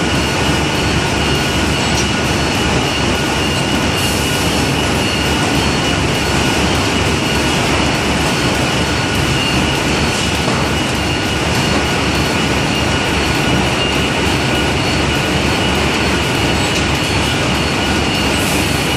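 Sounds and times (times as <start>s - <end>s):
factory machinery and conveyors: 0.0s - 18.9s.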